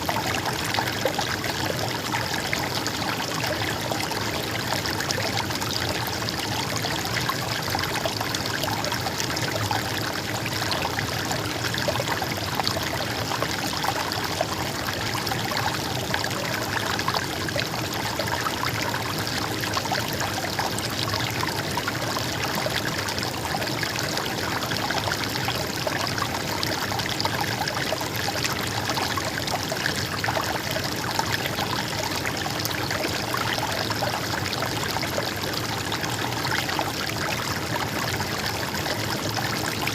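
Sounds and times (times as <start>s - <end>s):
stream flowing and babbling: 0.0s - 39.9s.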